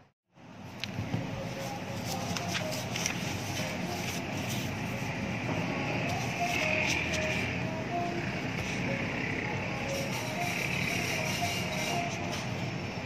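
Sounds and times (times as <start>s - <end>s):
busy office hall background noise: 0.4s - 13.0s.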